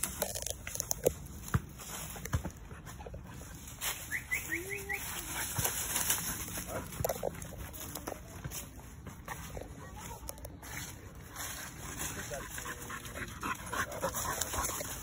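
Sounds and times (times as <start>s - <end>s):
dry leaves and twigs crackling: 0.0s - 15.0s.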